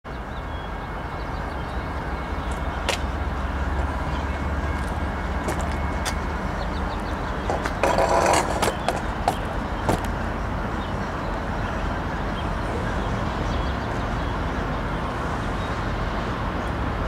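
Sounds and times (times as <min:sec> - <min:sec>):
distant diesel locomotives rumbling: 0:00.1 - 0:17.0.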